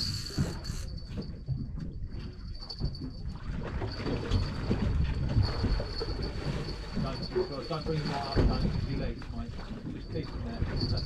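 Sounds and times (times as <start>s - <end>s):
water slapping against hull: 0.0s - 11.0s
wind buffeting microphone: 0.0s - 11.0s.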